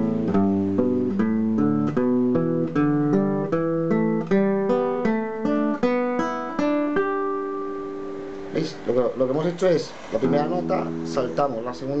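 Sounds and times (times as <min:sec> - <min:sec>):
classical guitar plucked notes: 0:00.0 - 0:12.0.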